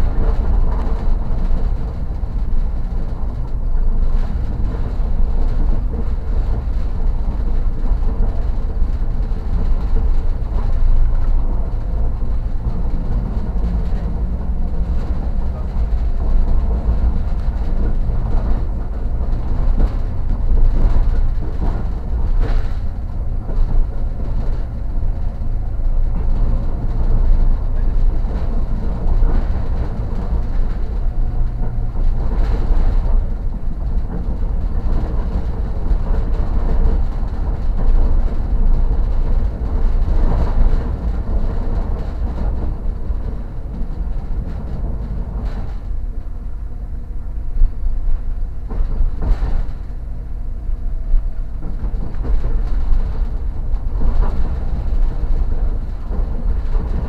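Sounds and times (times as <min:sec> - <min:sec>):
train wheels clattering: 0:00.0 - 0:57.0
train wheels rumbling on rails: 0:00.0 - 0:57.0.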